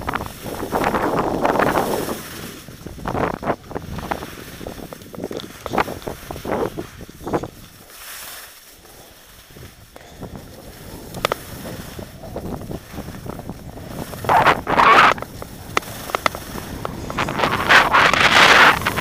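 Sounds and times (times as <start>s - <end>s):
wind buffeting microphone: 0.0s - 7.9s, 9.2s - 19.0s
skis scraping over snow: 0.0s - 19.0s.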